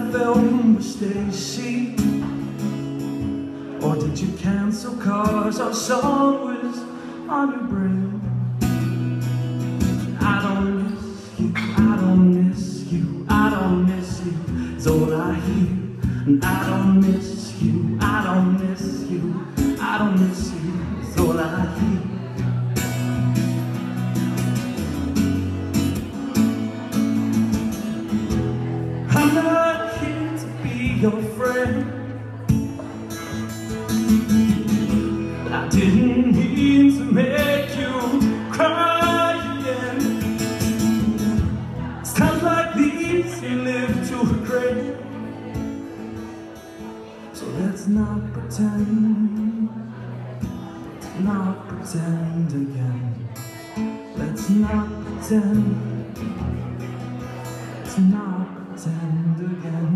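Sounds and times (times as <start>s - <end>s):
man singing: 0.0s - 9.1s, 9.8s - 24.0s, 26.1s - 46.2s, 47.1s - 59.9s
strummed acoustic guitar: 0.0s - 59.9s.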